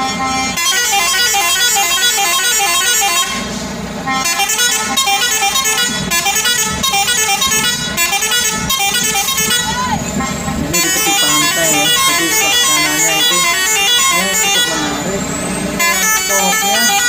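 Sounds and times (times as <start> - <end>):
musical air horns playing notes: 0.0 - 17.0.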